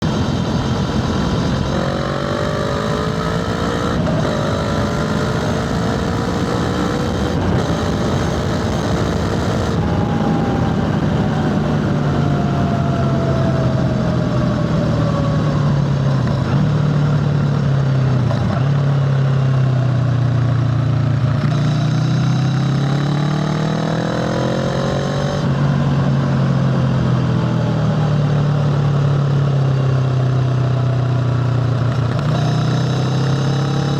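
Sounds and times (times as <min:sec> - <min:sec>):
motorcycle engine accelerating: 0:00.0 - 0:33.9
wind and road rush: 0:00.0 - 0:33.9.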